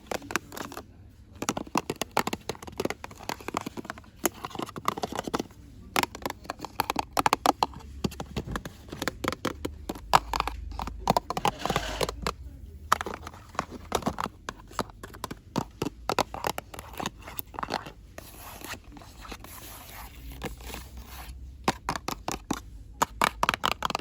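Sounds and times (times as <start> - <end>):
rustling and tapping on packaging: 0.0 - 24.0.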